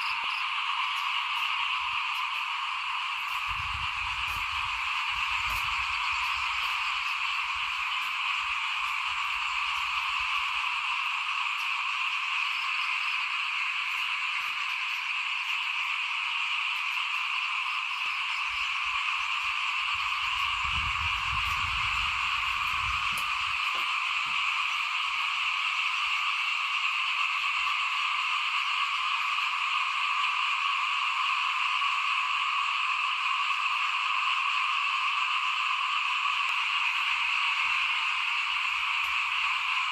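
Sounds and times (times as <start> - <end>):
frogs trilling in chorus: 0.0 - 39.9.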